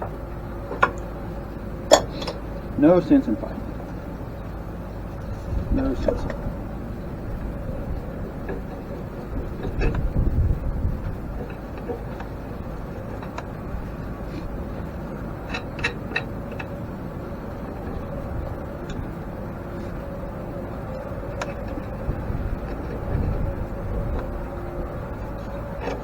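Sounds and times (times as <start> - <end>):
faint hum: 0.0 - 26.0
steady low rumble: 0.0 - 26.0.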